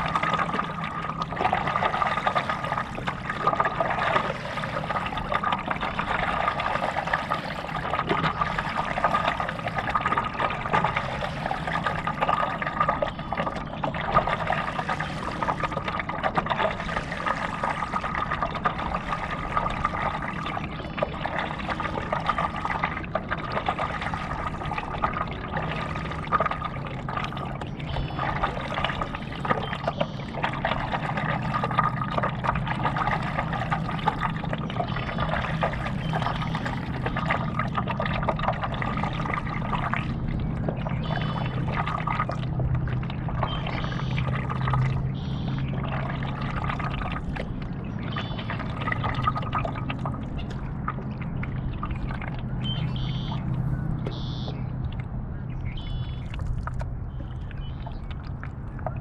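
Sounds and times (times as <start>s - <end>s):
water splashing around paddleboard: 0.0s - 59.0s.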